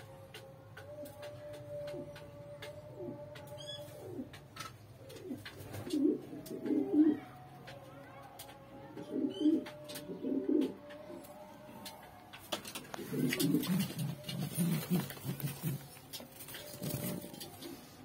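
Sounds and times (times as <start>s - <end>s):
pigeons cooing: 0.0s - 7.4s, 8.8s - 18.0s.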